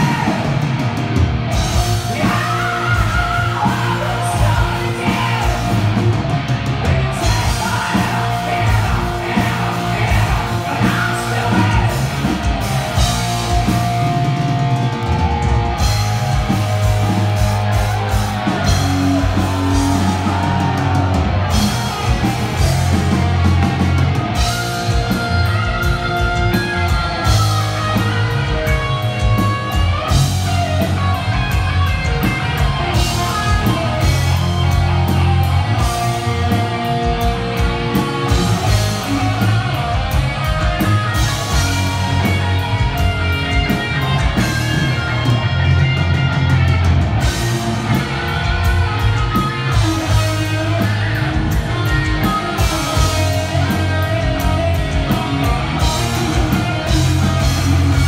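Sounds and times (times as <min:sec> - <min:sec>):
drums: 0:00.0 - 0:58.0
electric guitars: 0:00.0 - 0:58.0
heavy metal band playing live: 0:00.0 - 0:58.0.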